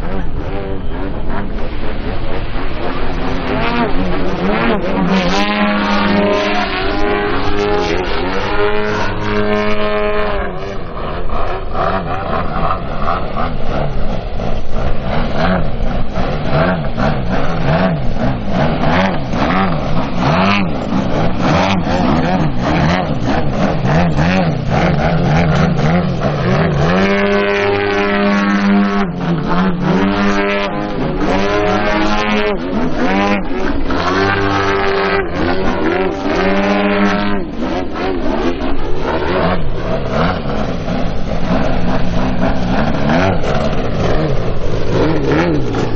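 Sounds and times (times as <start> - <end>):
model plane engines: 0.0 - 45.9.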